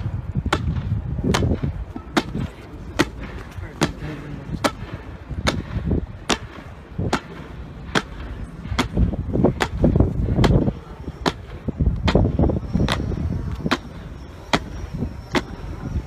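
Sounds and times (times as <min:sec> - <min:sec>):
low gusty rumble: 0:00.0 - 0:16.0.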